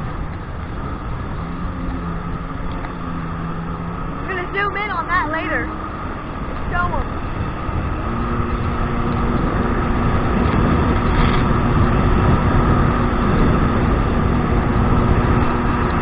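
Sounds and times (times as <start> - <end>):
jet ski engine running: 0.0 - 16.0
water noise: 0.0 - 16.0
wind noise: 0.0 - 16.0.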